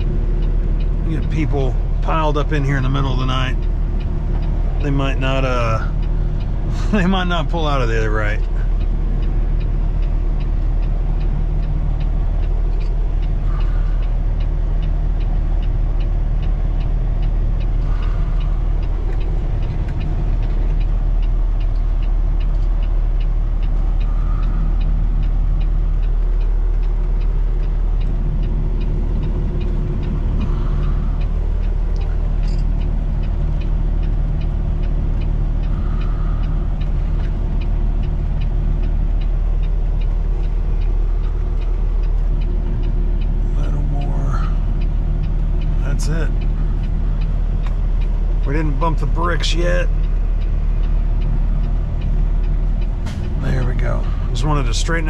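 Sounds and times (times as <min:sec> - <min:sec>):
diesel truck engine idling: 0:00.0 - 0:55.0
light ticking: 0:00.0 - 0:55.0.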